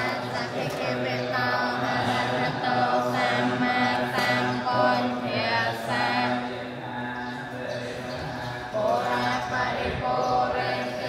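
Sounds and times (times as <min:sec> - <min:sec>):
voices chanting together: 0:00.0 - 0:11.0.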